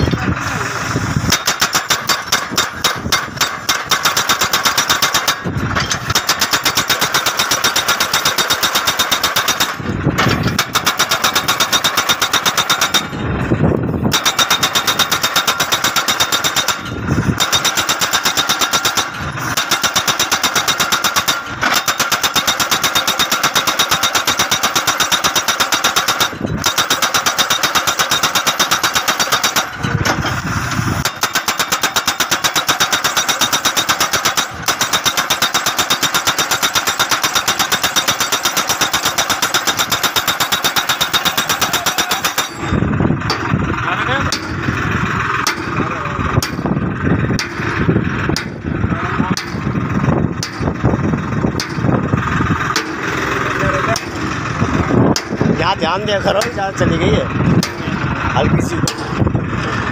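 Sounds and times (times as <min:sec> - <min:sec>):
tractor engine running: 0:00.0 - 0:59.9
post driver pounding: 0:01.2 - 0:59.9.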